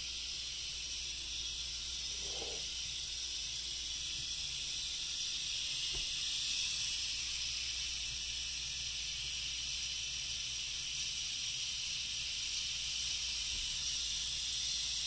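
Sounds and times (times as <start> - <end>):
espresso machine steam hiss: 0.0 - 15.0.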